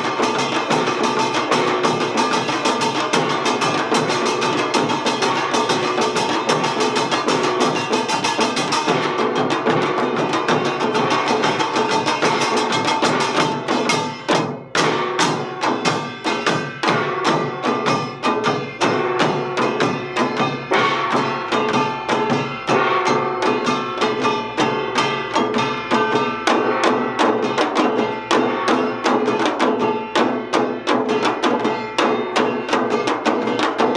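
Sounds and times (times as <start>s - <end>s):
hand drums beating fast: 0.0s - 33.9s.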